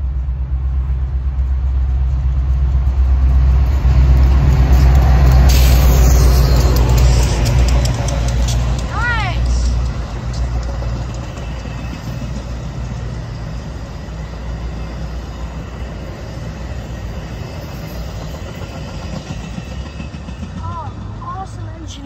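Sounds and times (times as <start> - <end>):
passenger train rolling by: 0.0 - 22.0.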